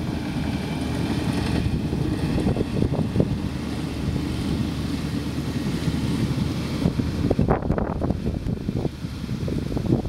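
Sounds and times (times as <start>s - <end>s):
distant diesel dozer engine: 0.0s - 10.0s
wind buffeting microphone: 0.0s - 10.0s.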